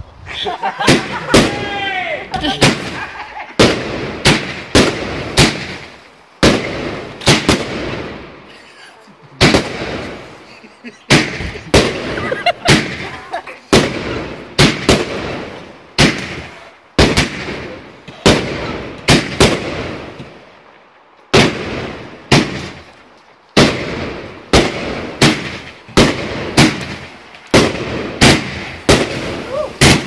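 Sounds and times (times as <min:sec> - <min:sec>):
fireworks bangs: 0:00.7 - 0:08.5, 0:09.4 - 0:20.6, 0:21.3 - 0:22.9, 0:23.6 - 0:30.0.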